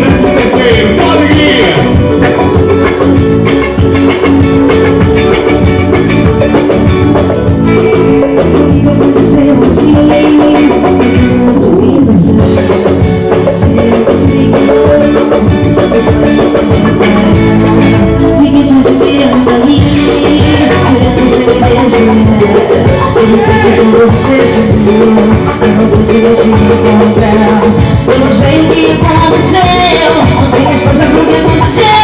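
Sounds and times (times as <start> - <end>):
drum kit beat: 0.0 - 32.0
electric guitar: 0.0 - 32.0
held keyboard notes: 0.0 - 32.0.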